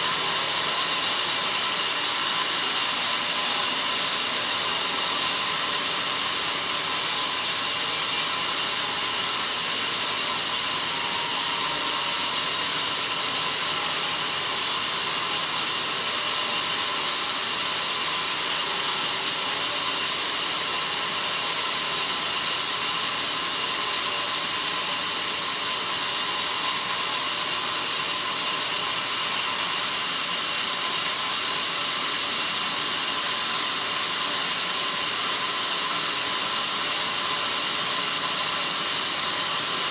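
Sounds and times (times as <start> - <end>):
bandsaw cutting through log: 0.0 - 32.7.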